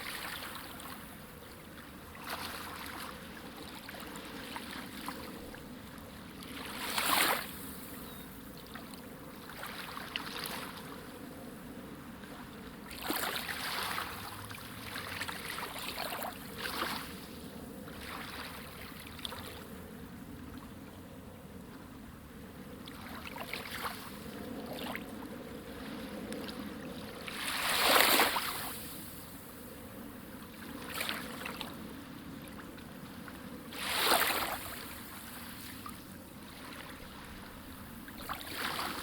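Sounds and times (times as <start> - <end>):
small waves lapping on beach: 0.0 - 39.0.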